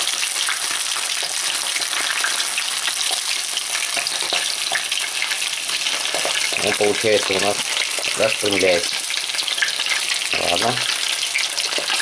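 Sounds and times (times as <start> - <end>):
hot oil sizzling in a pan: 0.0 - 12.0
small crackles and pops: 0.0 - 12.0.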